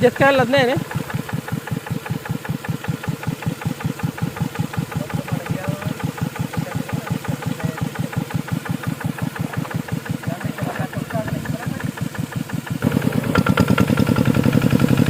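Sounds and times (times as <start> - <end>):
diesel tractor engine chugging: 0.0 - 15.0.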